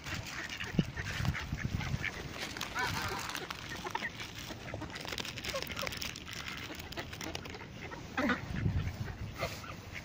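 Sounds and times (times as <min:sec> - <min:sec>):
ducks quacking: 0:00.0 - 0:10.0
geese honking: 0:00.0 - 0:10.0.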